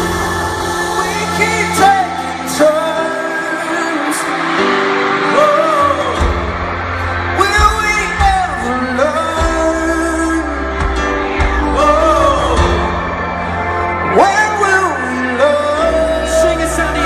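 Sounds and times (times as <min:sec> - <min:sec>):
band playing: 0:00.0 - 0:17.0
man singing pop song live: 0:00.0 - 0:17.0.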